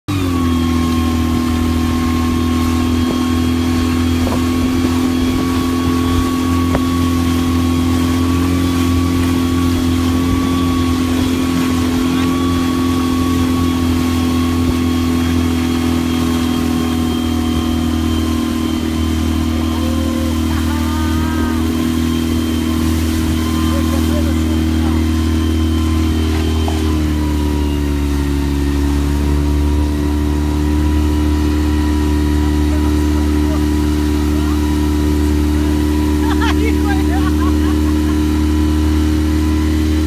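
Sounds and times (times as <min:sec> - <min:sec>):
outboard motor running: 0:00.0 - 0:40.0.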